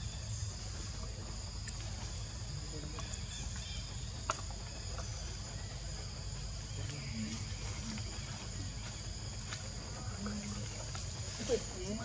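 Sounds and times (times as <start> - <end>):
insects droning: 0.0 - 12.0
low background rumble: 0.0 - 12.0.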